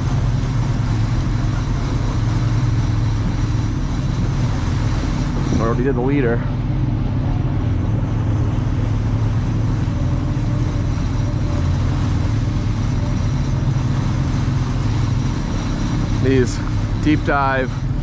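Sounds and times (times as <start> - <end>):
outboard motors droning: 0.0 - 18.0
water rushing in wake: 0.0 - 18.0.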